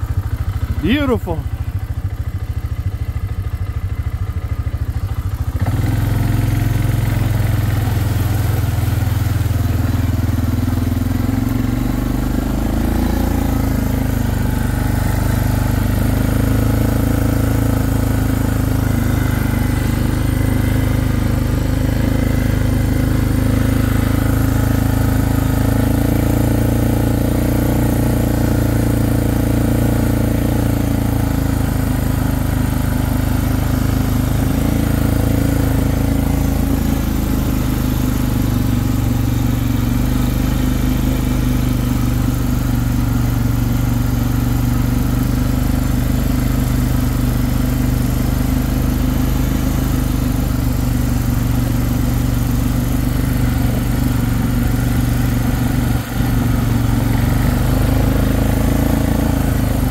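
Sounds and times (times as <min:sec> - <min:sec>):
quad bike engine revving: 0:00.0 - 0:59.9.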